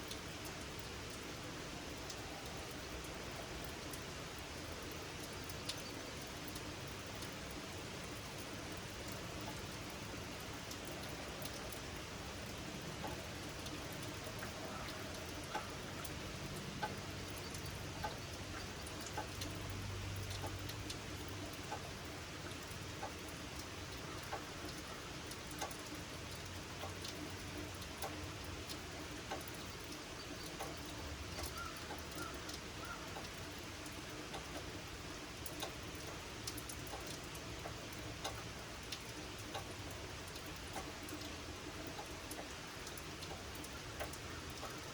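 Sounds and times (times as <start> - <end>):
rain falling: 0.0 - 44.9
raindrops tapping on surfaces: 0.0 - 44.9.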